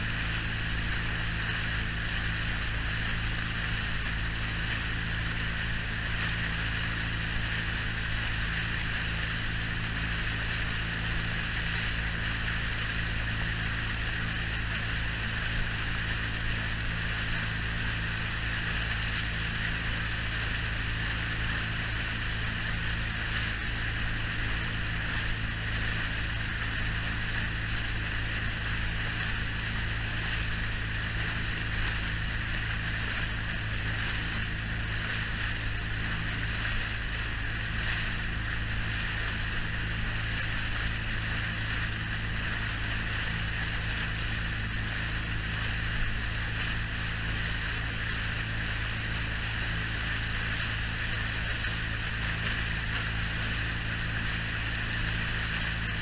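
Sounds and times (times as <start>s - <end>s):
boat motor running: 0.0s - 56.0s
water spray along hull: 0.0s - 56.0s.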